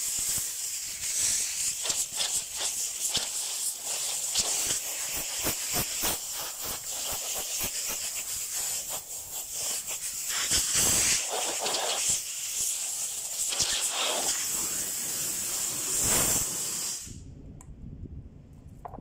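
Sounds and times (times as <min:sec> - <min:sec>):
compressed air blow gun hissing: 0:00.0 - 0:17.2.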